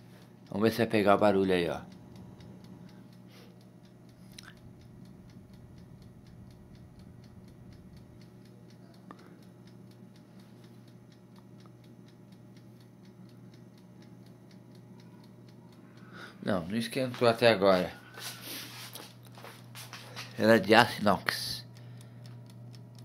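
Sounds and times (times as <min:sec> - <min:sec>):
dial timer ticking: 0:00.0 - 0:23.0
steady low hum: 0:00.0 - 0:23.0.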